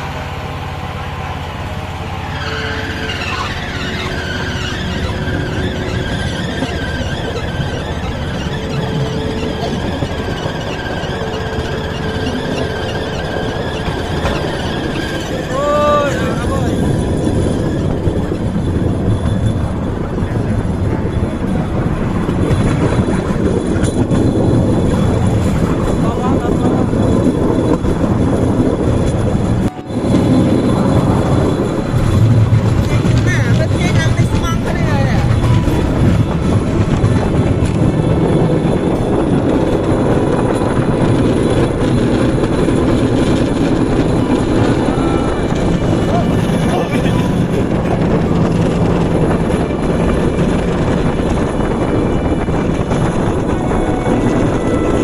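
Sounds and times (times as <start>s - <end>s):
petrol engine droning: 0.0s - 55.0s
small rail vehicle rumbling on tracks: 0.0s - 55.0s.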